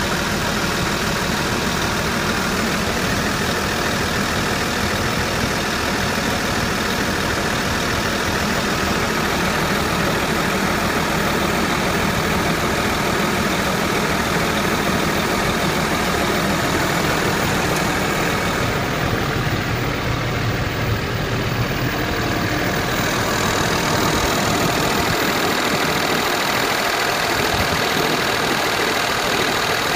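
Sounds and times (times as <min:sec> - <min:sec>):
diesel truck engine idling: 0:00.0 - 0:29.9.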